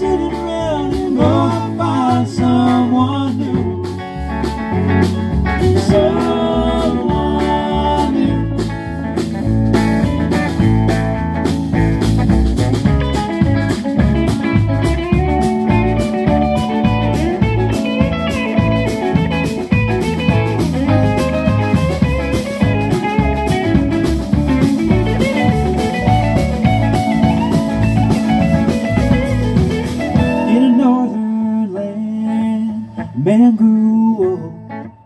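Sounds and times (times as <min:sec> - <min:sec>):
drum kit: 0:00.0 - 0:31.2
electric guitar bending notes: 0:00.0 - 0:35.0
keyboard: 0:00.0 - 0:35.0
upright bass: 0:00.0 - 0:35.0.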